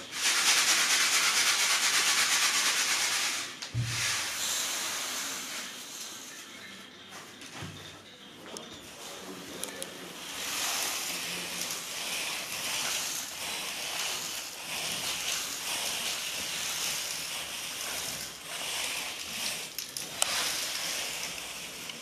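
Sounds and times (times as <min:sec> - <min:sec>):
firework granules hissing and rustling: 0:00.0 - 0:07.4, 0:08.8 - 0:22.0.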